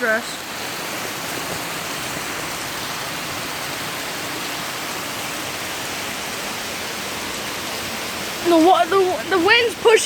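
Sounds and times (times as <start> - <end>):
heavy wind-driven rain: 0.0 - 10.0.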